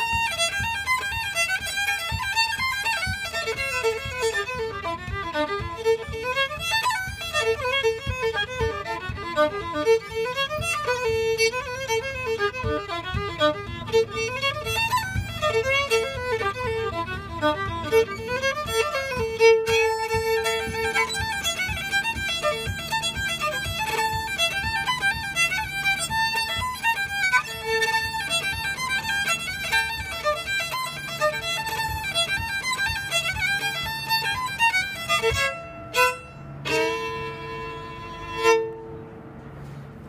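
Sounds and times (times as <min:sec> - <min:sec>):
solo fiddle playing a fast reel: 0:00.0 - 0:40.0.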